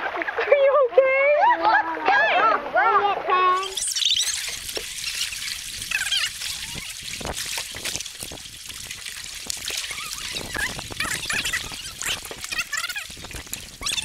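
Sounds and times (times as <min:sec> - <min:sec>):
river water trickling and splashing: 0:00.0 - 0:14.0.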